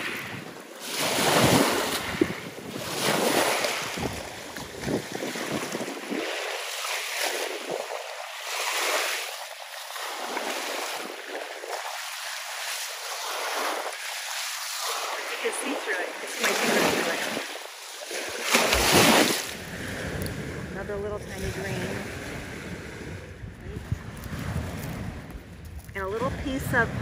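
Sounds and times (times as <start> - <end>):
wind buffeting microphone: 0.0 - 13.9, 14.8 - 27.0
waves washing onto shore: 0.0 - 27.0.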